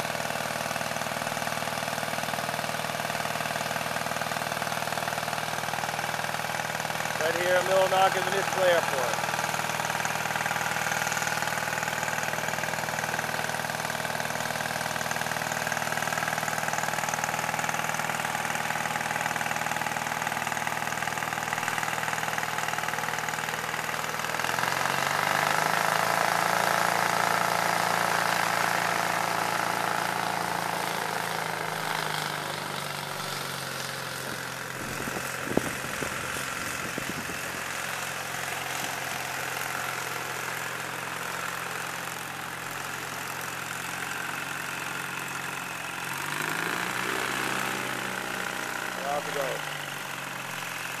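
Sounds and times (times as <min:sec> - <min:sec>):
light aircraft engine revving: 0:00.0 - 0:51.0.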